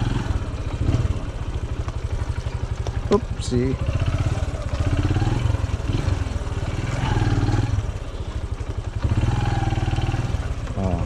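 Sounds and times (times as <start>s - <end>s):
small engine pulsing: 0.0s - 11.0s.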